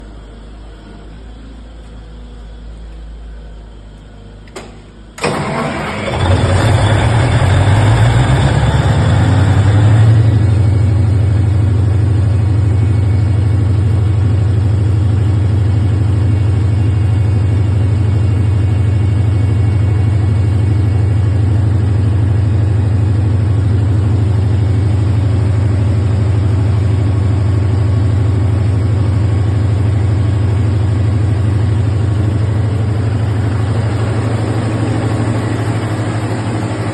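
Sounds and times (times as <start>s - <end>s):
diesel generator engine running: 0.0s - 36.9s.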